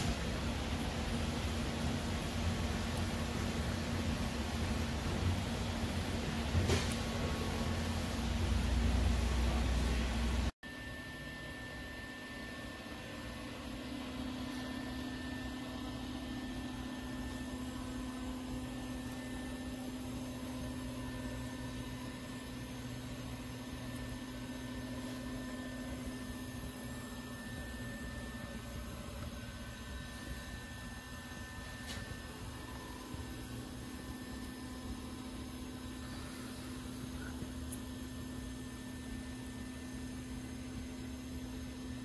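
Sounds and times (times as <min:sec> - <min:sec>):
machine hum: 0:00.0 - 0:42.0
faint high whine: 0:06.6 - 0:42.0.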